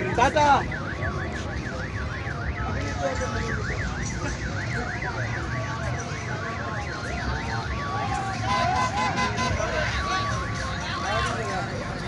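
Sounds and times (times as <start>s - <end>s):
crowd hubbub: 0.0s - 12.0s
traffic: 0.0s - 12.0s.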